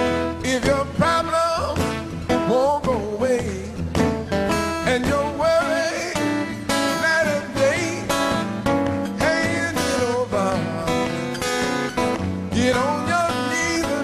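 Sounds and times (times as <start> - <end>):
guitar-led band song: 0.0 - 14.0.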